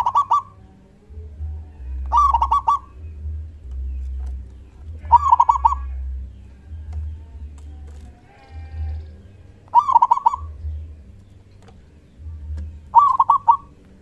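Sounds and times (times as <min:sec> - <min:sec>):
dove cooing: 0:00.0 - 0:11.0, 0:11.6 - 0:14.0
steady low rumble: 0:00.0 - 0:14.0.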